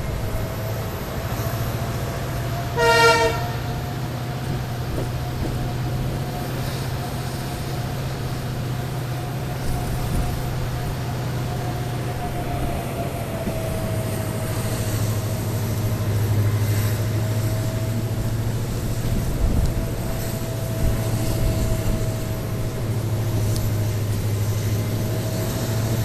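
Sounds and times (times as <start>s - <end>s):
locomotive engine humming: 0.0s - 26.0s
rail running noise: 0.0s - 26.0s.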